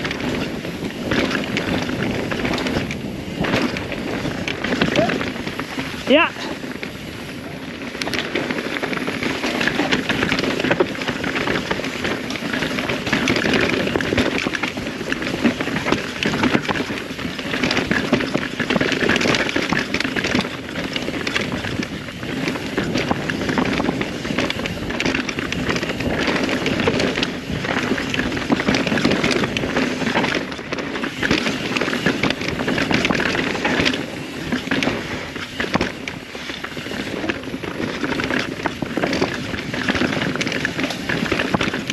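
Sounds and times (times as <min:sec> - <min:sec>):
bike rattling over bumps: 0:00.0 - 0:41.9
bike tyres crackling over dirt: 0:00.0 - 0:41.9.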